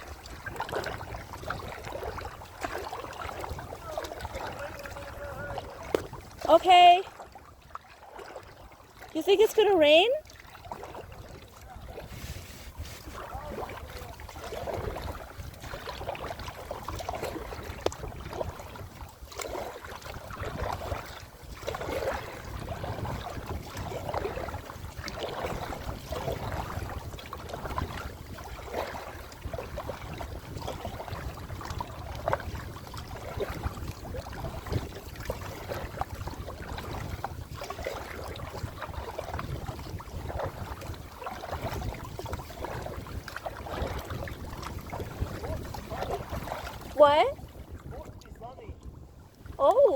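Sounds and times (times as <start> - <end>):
water splashing around a kayak: 0.0 - 49.9
wind rumbling on microphone: 0.0 - 49.9.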